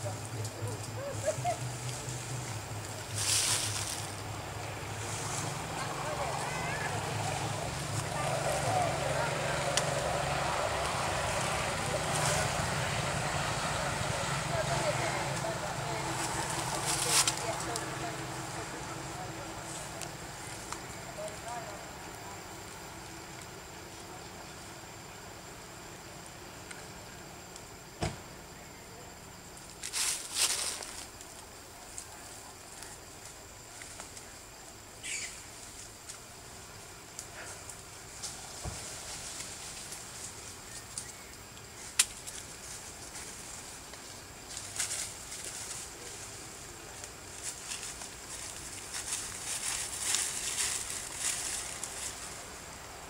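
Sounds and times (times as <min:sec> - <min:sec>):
outdoor background: 0:00.0 - 0:53.0
rustle of leaves and twigs: 0:00.0 - 0:53.0
steady background hiss: 0:00.0 - 0:53.0.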